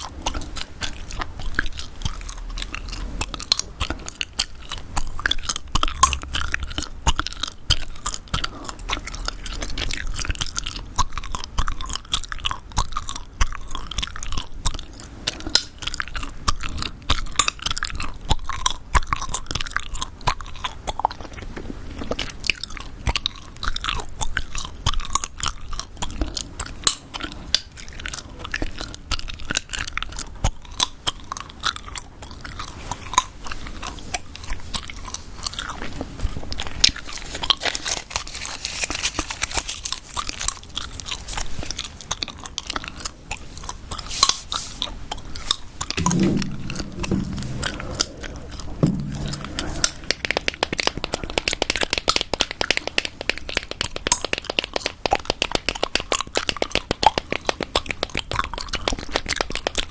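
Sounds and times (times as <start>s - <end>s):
gum chewing: 0.0s - 59.9s.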